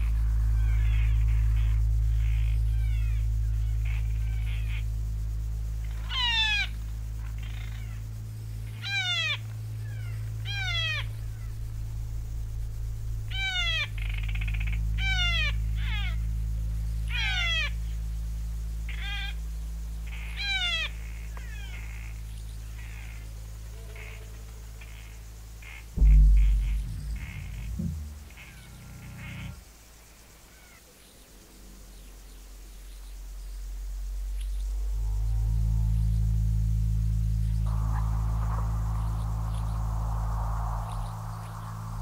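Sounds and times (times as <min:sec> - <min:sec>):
steady low drone: 0:00.0 - 0:21.4, 0:25.9 - 0:29.6, 0:33.2 - 0:42.0.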